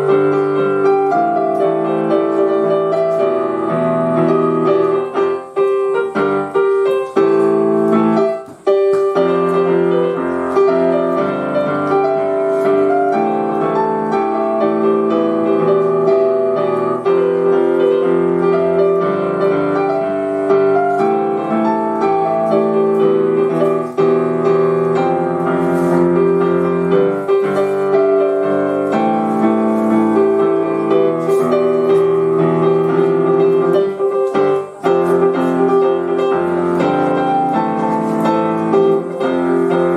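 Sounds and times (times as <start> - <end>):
piano playing chords and melody: 0.0 - 39.9.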